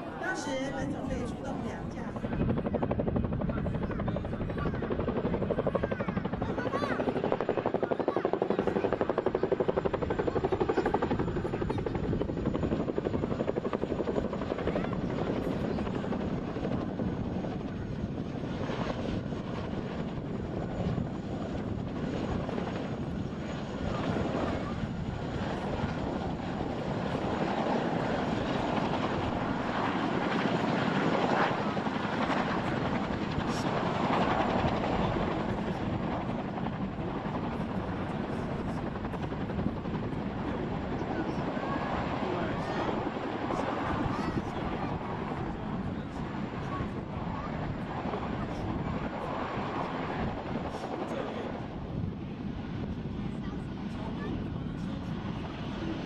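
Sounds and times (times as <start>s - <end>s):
helicopter engine noise: 0.0s - 56.0s
helicopter rotor chop: 0.0s - 56.0s.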